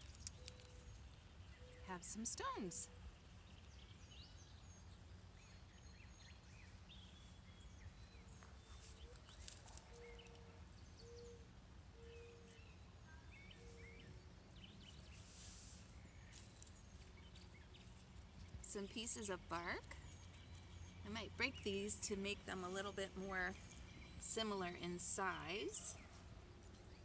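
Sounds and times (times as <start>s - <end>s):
distant bird chirps: 0.0s - 27.0s.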